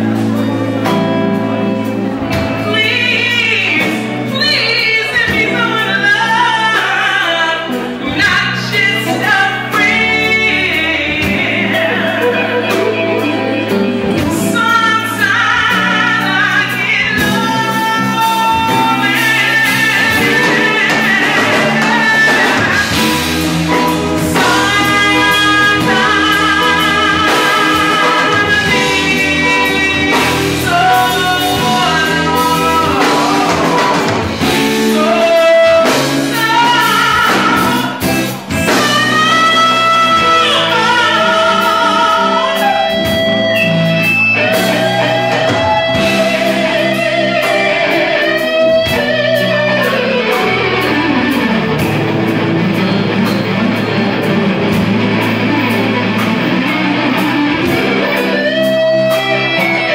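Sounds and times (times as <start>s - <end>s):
bass and drums: 0.0s - 59.9s
electric guitar: 0.0s - 59.9s
person singing: 0.0s - 59.9s.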